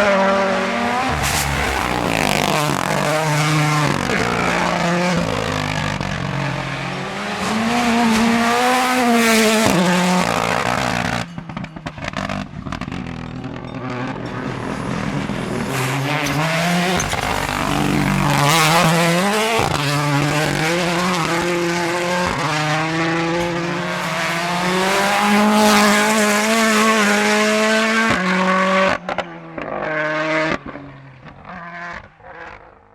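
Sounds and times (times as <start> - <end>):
rally car engine revving hard: 0.0 - 32.6
exhaust cracks: 0.7 - 28.2.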